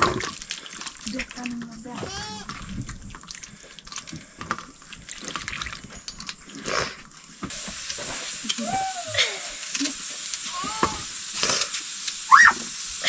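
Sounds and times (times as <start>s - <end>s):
steady hiss: 0.0s - 13.0s
water splashing and dripping: 0.0s - 13.0s.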